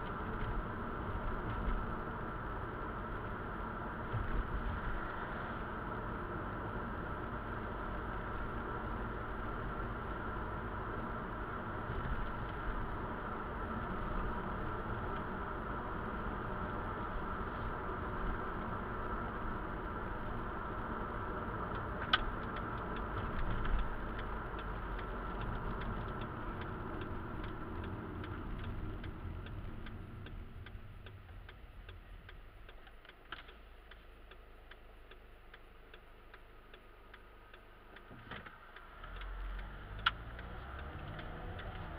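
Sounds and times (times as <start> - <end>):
tyre and engine noise: 0.0 - 36.5, 37.2 - 41.9
turn signal ticking: 7.6 - 41.9.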